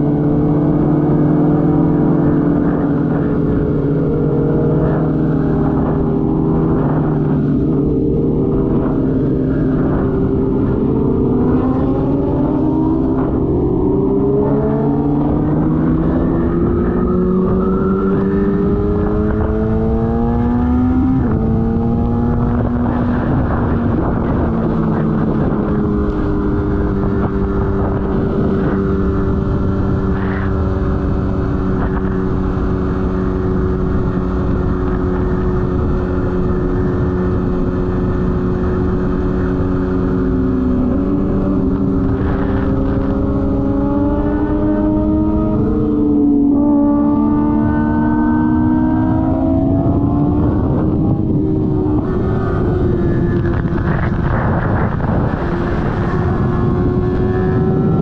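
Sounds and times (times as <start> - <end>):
vehicle engines: 0.0 - 58.0.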